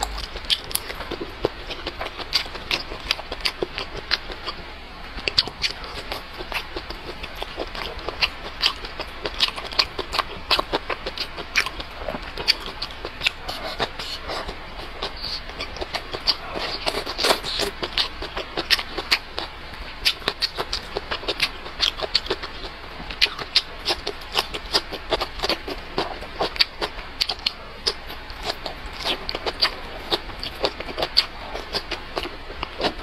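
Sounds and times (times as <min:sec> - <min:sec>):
mouth clicks and smacks: 0:00.0 - 0:33.0
person chewing food: 0:00.0 - 0:33.0.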